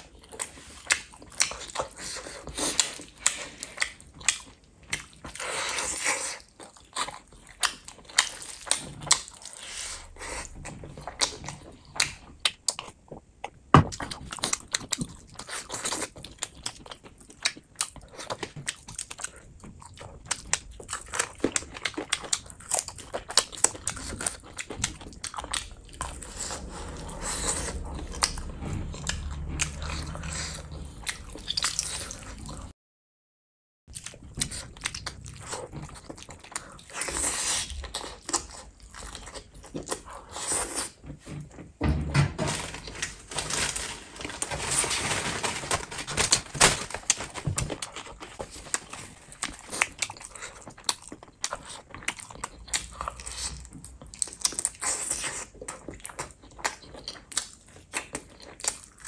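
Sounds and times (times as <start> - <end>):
wet chewing and lip-smacking: 0.0 - 32.7, 33.9 - 41.0, 47.6 - 59.0.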